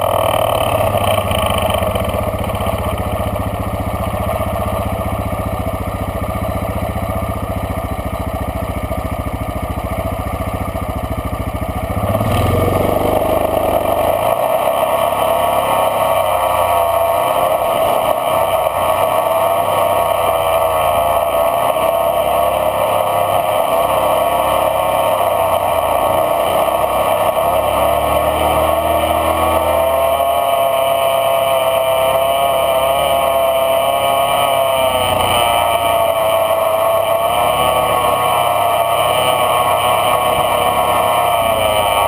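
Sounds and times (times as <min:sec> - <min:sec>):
off-road vehicle engine running: 0:00.0 - 0:42.0.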